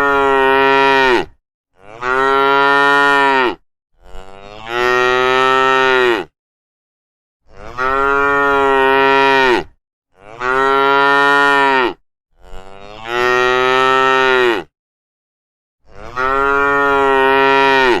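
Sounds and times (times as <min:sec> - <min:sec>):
cow mooing: 0:00.0 - 0:06.3, 0:07.5 - 0:14.7, 0:15.8 - 0:18.0.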